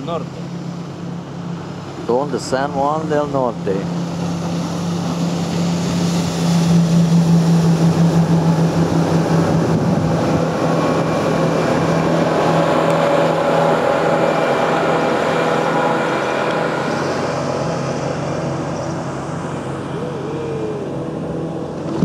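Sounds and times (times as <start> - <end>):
boat engine drone: 0.0 - 22.0
rushing water from boat wake: 0.0 - 22.0.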